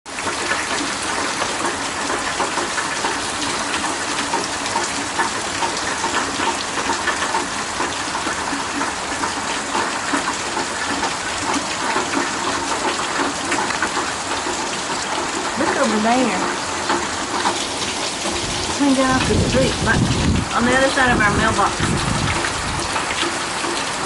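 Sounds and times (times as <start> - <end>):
heavy rain falling: 0.1 - 24.0
running water gushing: 0.1 - 24.0.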